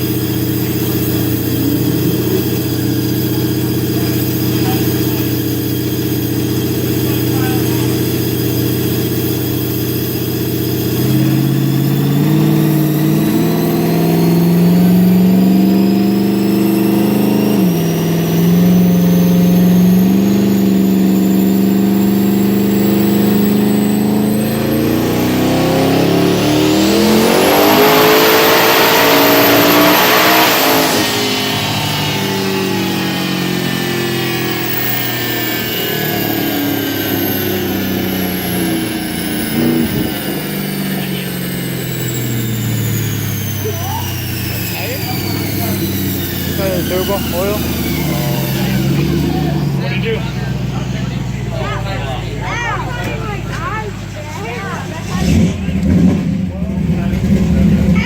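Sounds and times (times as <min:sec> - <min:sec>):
engine revving on a dyno: 0:00.0 - 0:58.0
turbo whine: 0:00.0 - 0:58.0.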